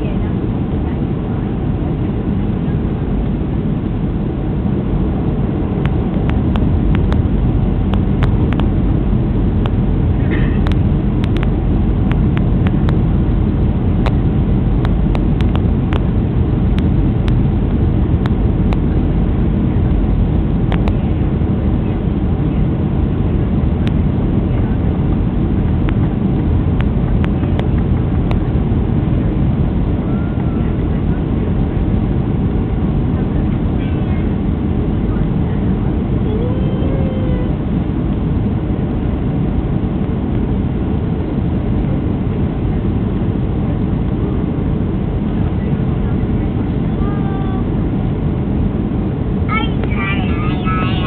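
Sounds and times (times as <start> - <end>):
jet engine and airflow noise: 0.0 - 51.0.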